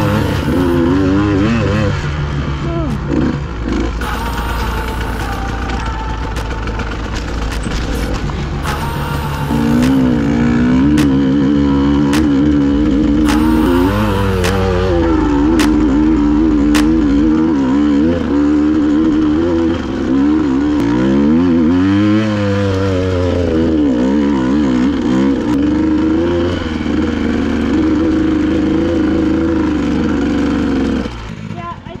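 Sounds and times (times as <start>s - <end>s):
dirt bike engine revving: 0.0s - 31.7s.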